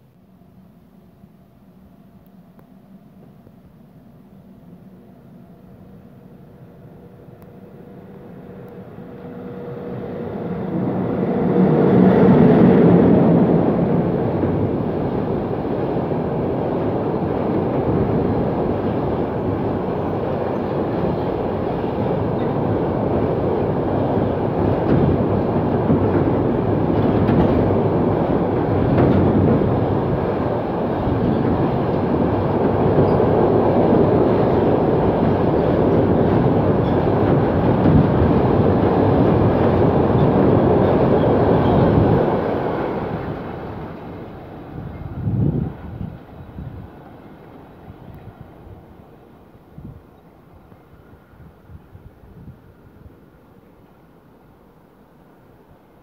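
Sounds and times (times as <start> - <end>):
train wheels rumbling on rails: 0.4 - 56.0.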